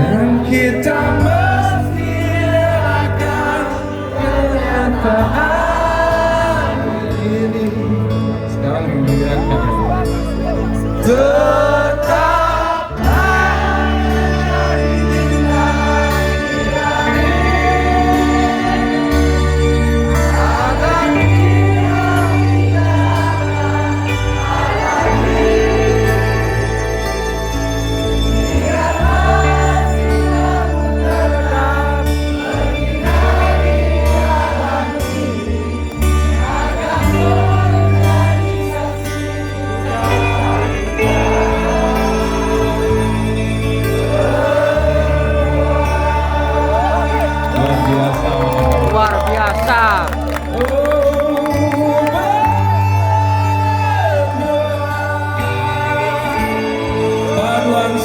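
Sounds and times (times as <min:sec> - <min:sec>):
crowd singing along: 0:00.0 - 0:58.0
rock band playing a ballad: 0:00.0 - 0:58.0.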